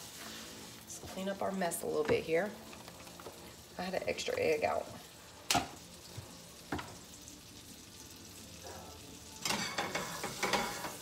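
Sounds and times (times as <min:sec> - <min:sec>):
butter sizzling in a pan: 0:00.0 - 0:11.0.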